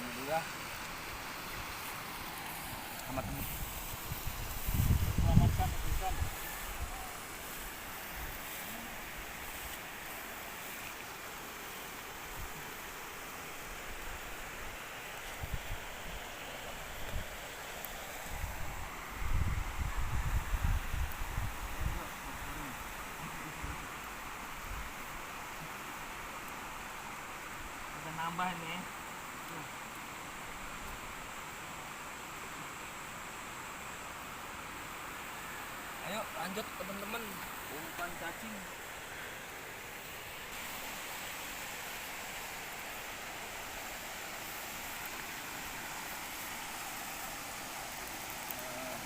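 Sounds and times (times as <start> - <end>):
steady rushing outdoor noise: 0.0 - 49.0.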